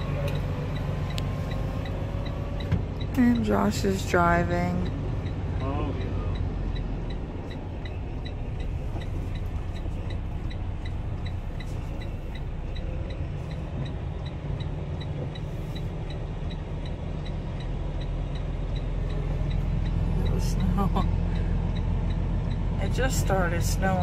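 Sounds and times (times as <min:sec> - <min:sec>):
road noise: 0:00.0 - 0:24.0
truck diesel engine rumble: 0:00.0 - 0:24.0
faint regular ticking: 0:00.2 - 0:24.0.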